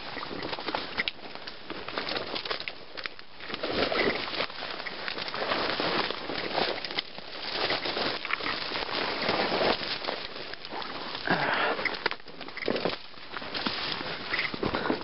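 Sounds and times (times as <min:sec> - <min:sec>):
branches and leaves rustling: 0:00.0 - 0:15.0
crunching footsteps: 0:00.0 - 0:15.0.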